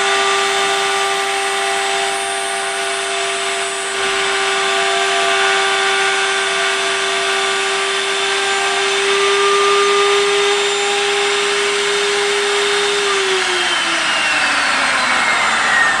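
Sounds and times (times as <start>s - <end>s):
electric router whining: 0.0s - 16.0s.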